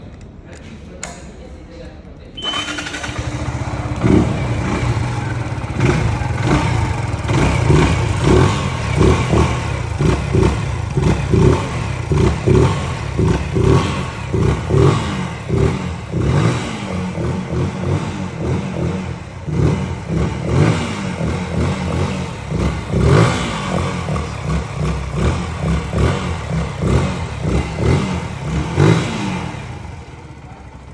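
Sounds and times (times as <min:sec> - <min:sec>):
motorcycle engine revving: 0:02.4 - 0:30.9.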